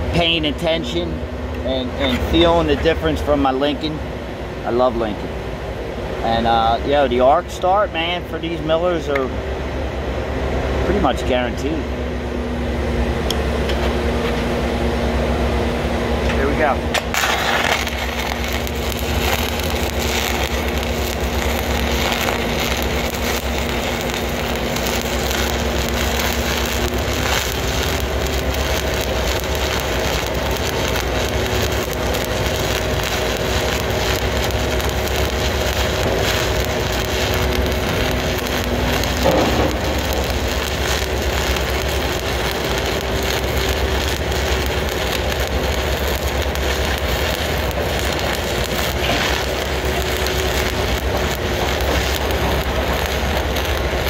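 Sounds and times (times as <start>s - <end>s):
welding arc crackling: 0.0s - 4.0s, 13.0s - 54.0s.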